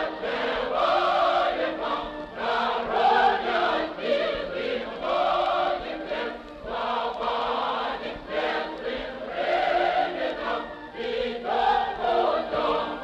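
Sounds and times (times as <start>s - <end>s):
choir singing long notes: 0.0s - 13.0s.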